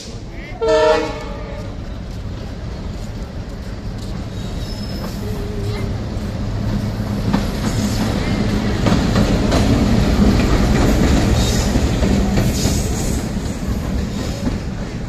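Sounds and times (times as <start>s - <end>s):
diesel locomotive engine hum: 0.0s - 15.0s
wheel and rail noise: 0.0s - 15.0s.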